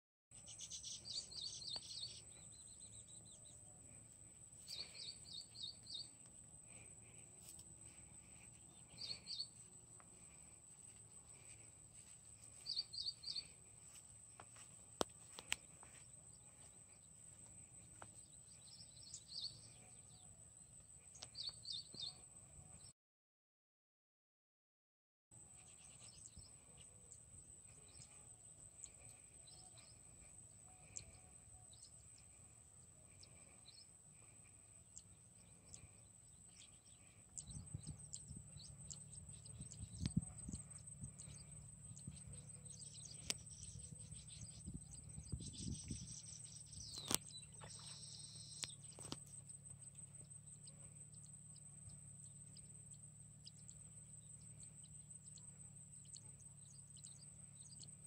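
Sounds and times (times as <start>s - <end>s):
faint bird chirps: 0.3s - 23.0s, 25.4s - 58.0s.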